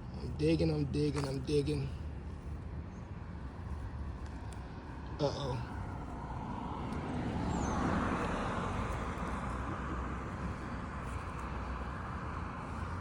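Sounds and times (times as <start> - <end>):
road traffic rumble: 0.0 - 13.0
vehicle passing: 0.0 - 13.0.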